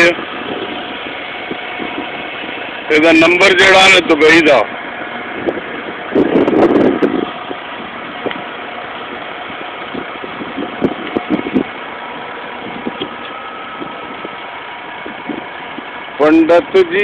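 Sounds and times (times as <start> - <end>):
pickup engine idling: 0.0 - 17.0.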